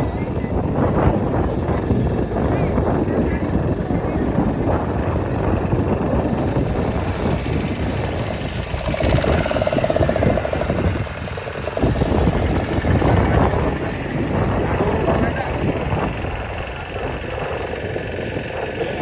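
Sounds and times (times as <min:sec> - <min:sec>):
motorboat engine rumble: 0:00.0 - 0:19.0.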